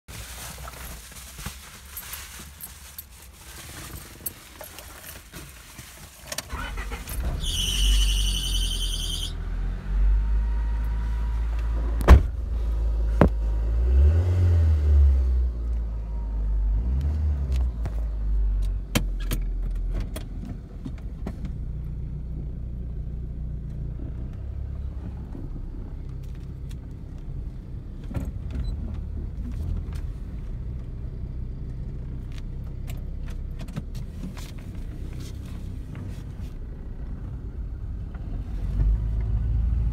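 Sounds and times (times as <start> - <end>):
car engine starting and idling: 2.6 - 39.9.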